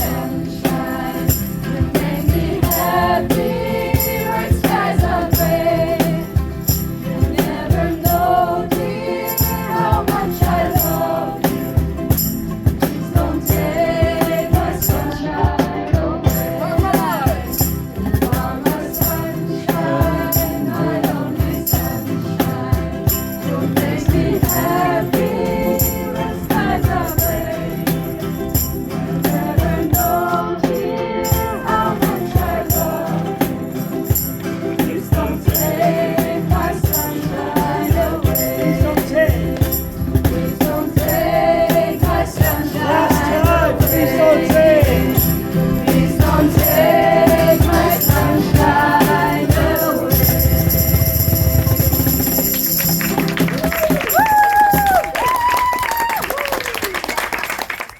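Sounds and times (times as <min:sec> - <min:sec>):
group singing: 0:00.0 - 0:52.4
strummed ukuleles: 0:00.0 - 0:56.0
jingling hand percussion: 0:00.0 - 0:56.4.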